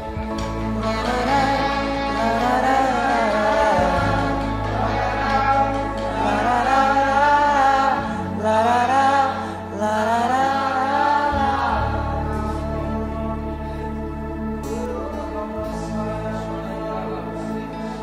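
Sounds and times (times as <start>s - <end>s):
acoustic guitars: 0.0s - 18.0s
keyboard: 0.0s - 18.0s
sustained low bass notes: 0.0s - 18.0s
men singing: 0.7s - 18.0s.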